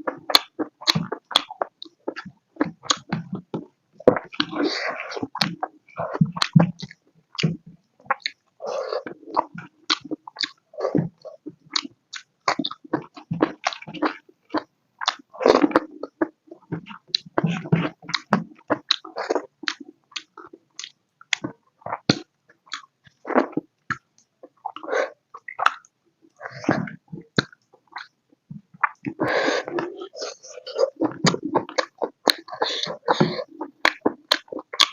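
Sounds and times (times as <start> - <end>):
wet chewing and smacking: 0.0 - 34.9.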